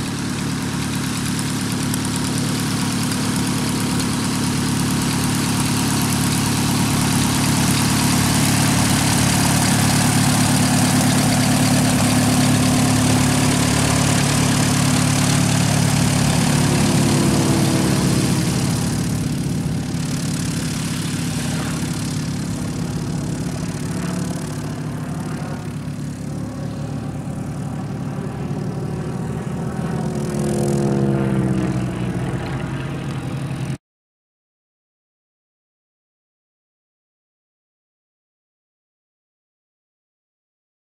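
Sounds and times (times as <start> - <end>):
propeller plane engine running: 0.0 - 33.8.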